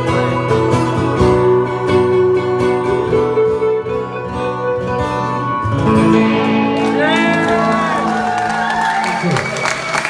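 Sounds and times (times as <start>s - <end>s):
electric guitar playing: 0.0s - 10.0s.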